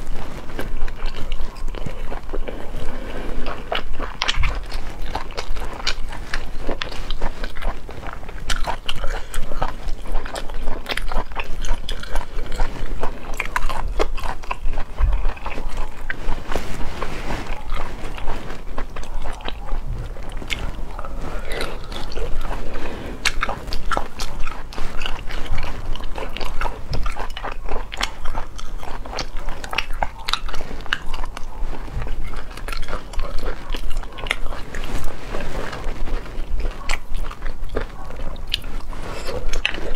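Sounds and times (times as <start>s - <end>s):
chewing with mouth clicks: 0.0s - 39.9s.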